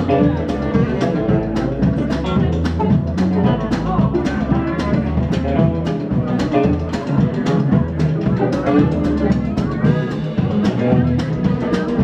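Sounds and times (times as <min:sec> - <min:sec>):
drum kit beat: 0:00.0 - 0:12.0
live blues band playing: 0:00.0 - 0:12.0.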